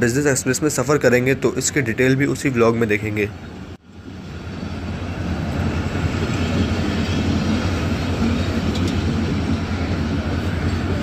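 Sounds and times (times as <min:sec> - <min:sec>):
train wheels rumbling on rails: 0:00.6 - 0:11.0.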